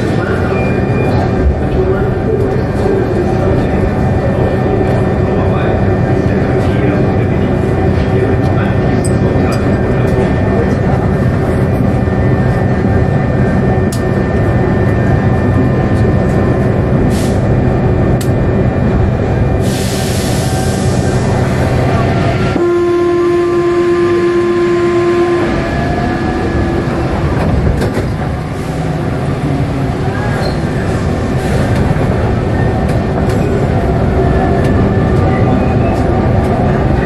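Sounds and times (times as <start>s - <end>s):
steady whine: 0.0s - 37.0s
train rumbling in a tunnel: 0.0s - 37.0s.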